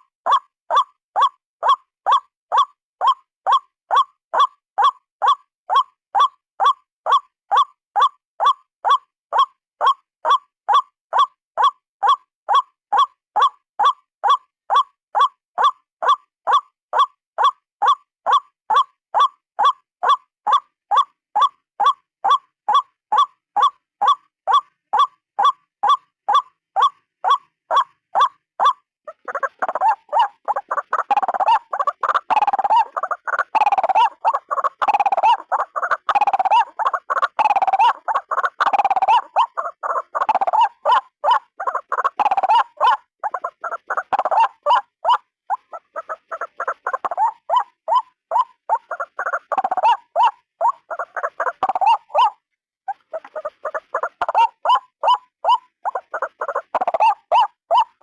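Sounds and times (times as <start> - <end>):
bird calling croaking notes: 0.3 - 58.0.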